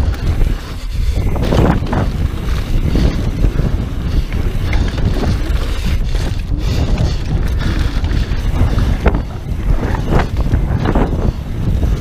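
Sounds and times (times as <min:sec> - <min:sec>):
bike rattling clicks and knocks: 0:00.0 - 0:12.0
tyres rumbling on dirt: 0:00.0 - 0:12.0
wind buffeting microphone: 0:00.0 - 0:12.0.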